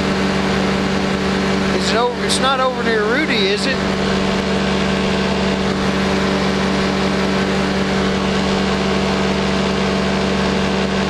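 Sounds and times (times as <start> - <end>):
aircraft engine droning: 0.0 - 11.0.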